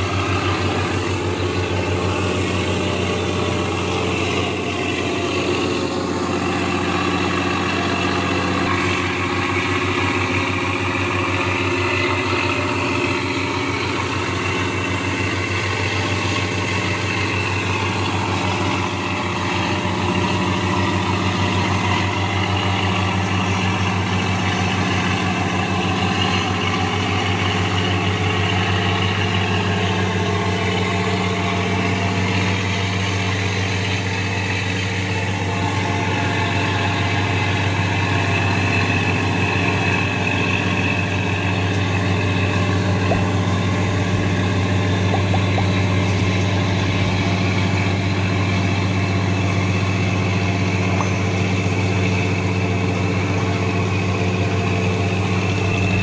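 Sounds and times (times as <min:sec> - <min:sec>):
boat diesel engine drone: 0:00.0 - 0:56.0
water rushing along hull: 0:00.0 - 0:56.0.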